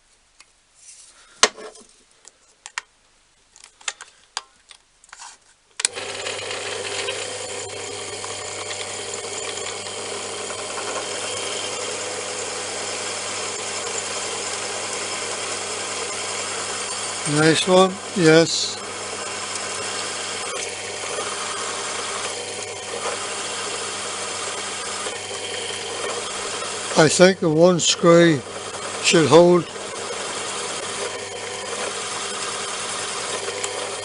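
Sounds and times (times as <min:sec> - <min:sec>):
electric drill running: 0:05.8 - 0:34.0.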